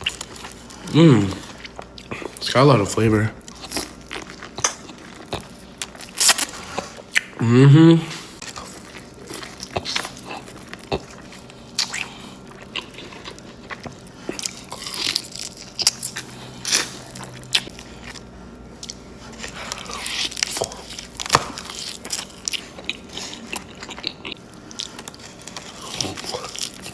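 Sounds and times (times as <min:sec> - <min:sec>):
crisp bites and chewing: 0:03.4 - 0:07.3, 0:08.4 - 0:26.9.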